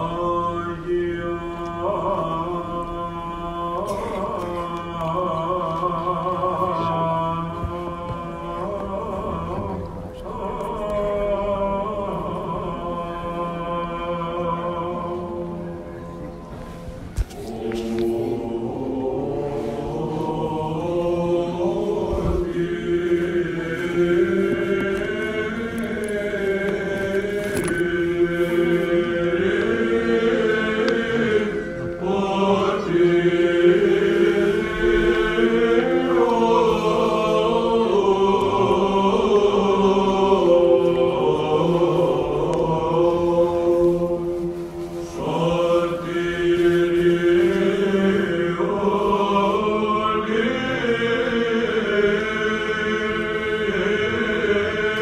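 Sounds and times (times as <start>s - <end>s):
choir chanting a cappella: 0.0s - 55.0s.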